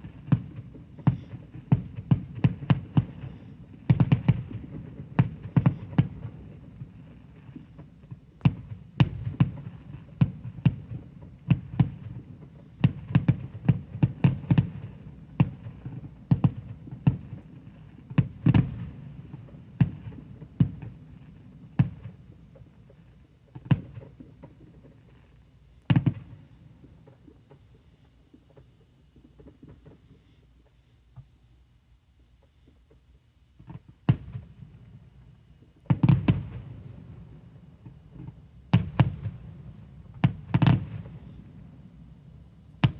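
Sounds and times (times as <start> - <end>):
fireworks bangs: 0.0 - 30.4, 33.6 - 42.9.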